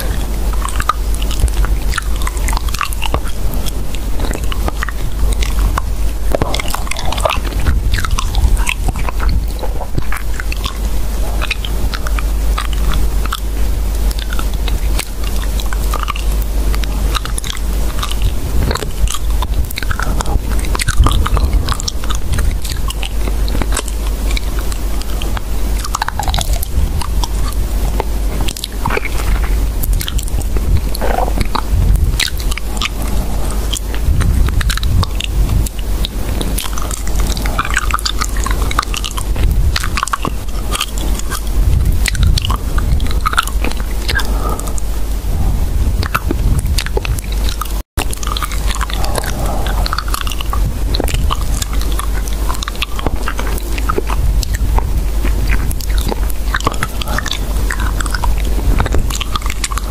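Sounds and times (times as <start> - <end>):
close-up crunching and chewing: 0.0 - 59.9.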